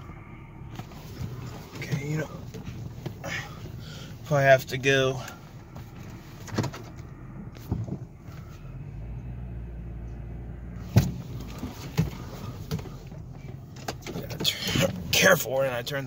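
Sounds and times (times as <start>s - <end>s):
car engine hum from inside cabin: 0.0s - 16.0s.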